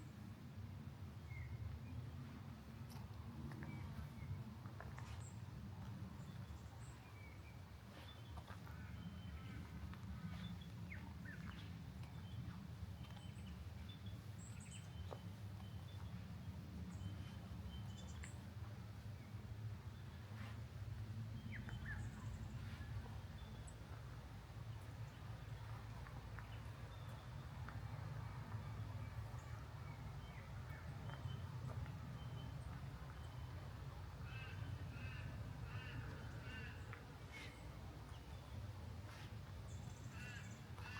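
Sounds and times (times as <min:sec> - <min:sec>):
steady low rumble: 0:00.0 - 0:40.9.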